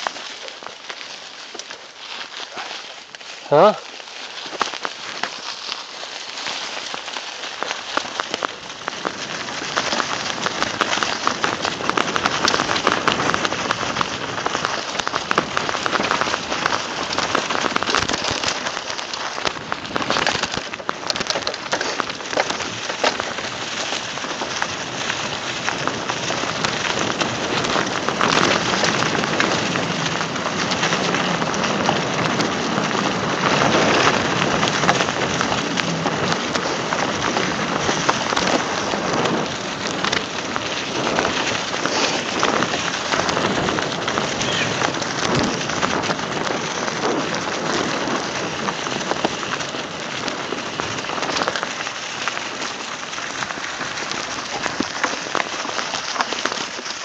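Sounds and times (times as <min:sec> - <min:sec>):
bike tyres crackling on leaves: 0:00.0 - 0:57.0.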